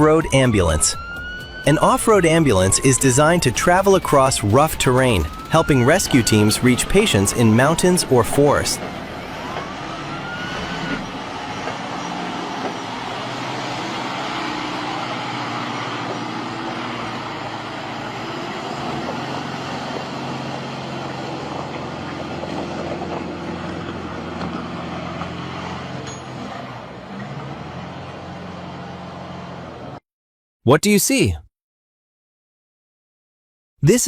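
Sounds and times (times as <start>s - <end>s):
road noise: 0.0s - 30.0s
vehicle engine hum: 2.2s - 30.0s.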